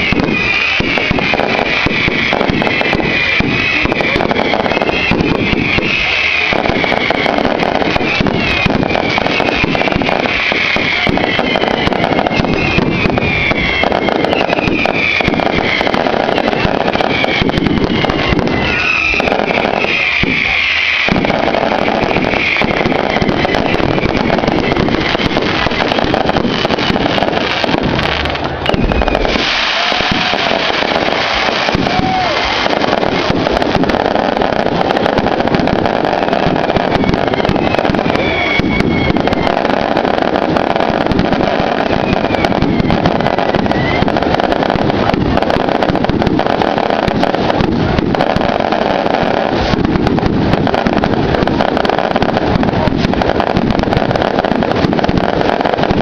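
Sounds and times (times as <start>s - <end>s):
bonfire crackling and popping: 0.0s - 56.0s
crowd voices: 0.0s - 56.0s.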